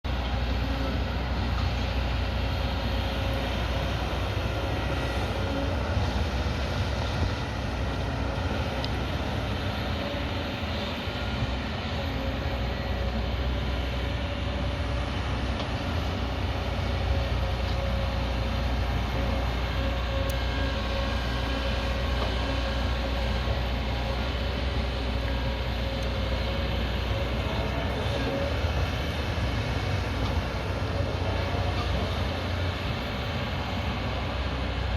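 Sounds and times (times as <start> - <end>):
excavator diesel engine rumbling: 0.0 - 34.9
steady engine whine: 0.0 - 34.9.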